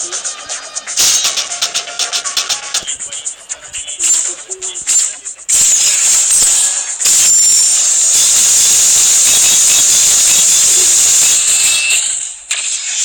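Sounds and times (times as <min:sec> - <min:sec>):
spinning tops whirring and scraping: 0:00.0 - 0:13.0.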